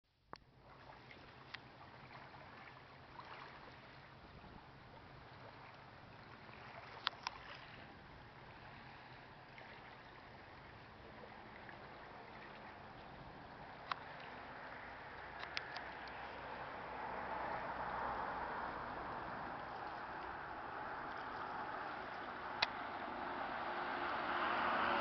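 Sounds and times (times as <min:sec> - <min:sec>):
water lapping: 0:00.3 - 0:25.0.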